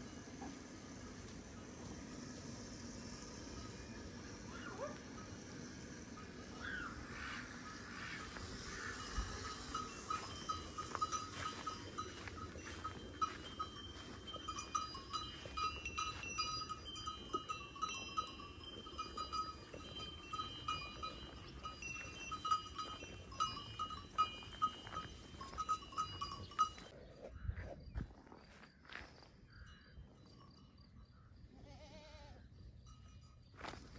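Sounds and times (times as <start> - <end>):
faint outdoor background noise: 0.0 - 33.9
livestock bells clinking: 2.8 - 27.0, 29.6 - 33.9.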